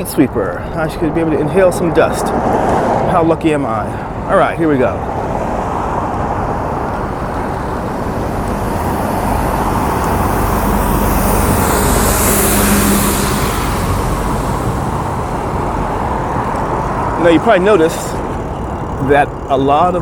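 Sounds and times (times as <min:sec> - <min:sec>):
street sweeper truck passing: 0:00.5 - 0:20.0.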